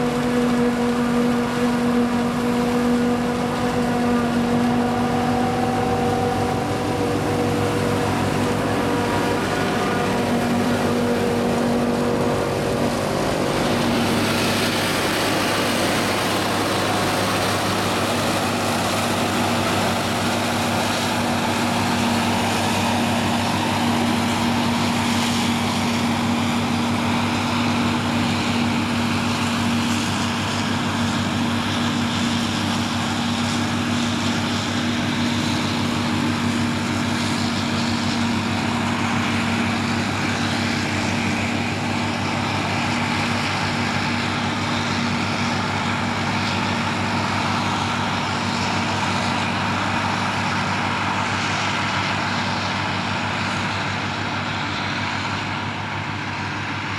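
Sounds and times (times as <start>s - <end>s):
constant machine whine: 0.0s - 56.9s
tractor running: 0.0s - 56.9s.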